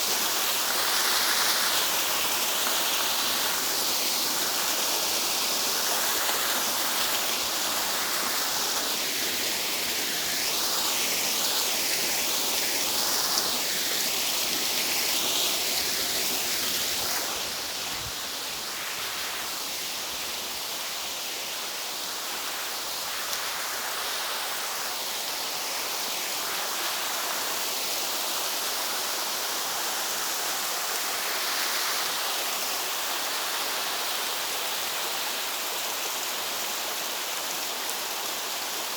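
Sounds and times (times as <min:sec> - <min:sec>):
waterfall rushing: 0:00.0 - 0:37.3.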